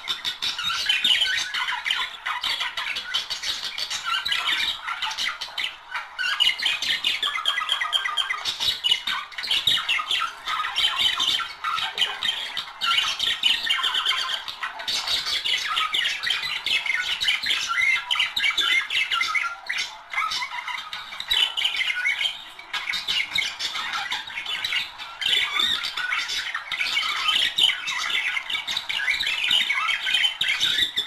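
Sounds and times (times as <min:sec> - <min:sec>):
budgerigars chattering and warbling: 0:00.0 - 0:31.0.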